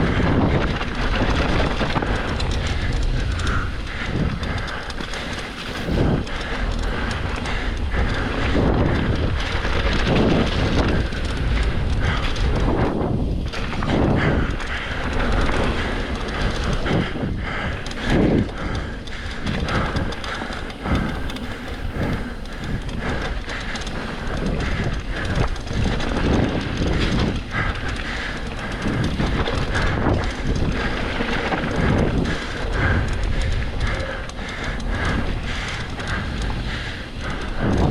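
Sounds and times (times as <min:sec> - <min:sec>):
mountain bike rumbling on trail: 0:00.0 - 0:37.9.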